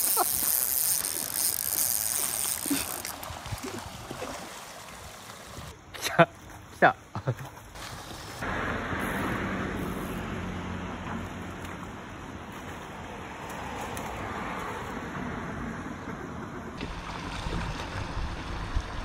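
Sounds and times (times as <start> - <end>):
river water flowing: 0.0 - 15.1, 16.8 - 19.0.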